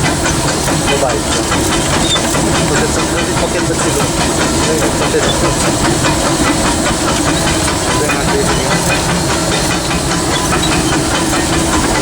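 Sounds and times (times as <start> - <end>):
locomotive running gear rumble: 0.0 - 12.0
steam hissing: 0.0 - 12.0.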